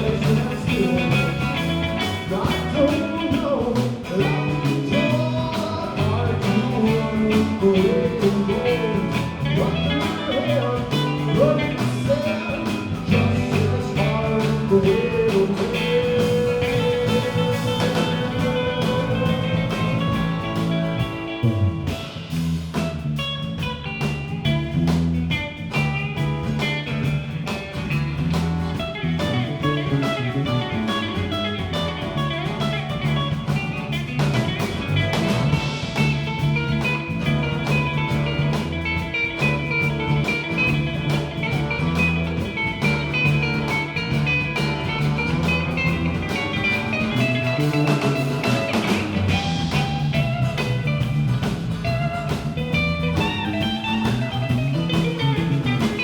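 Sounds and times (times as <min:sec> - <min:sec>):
bass and drums: 0:00.0 - 0:56.0
guitar lines: 0:00.0 - 0:56.0.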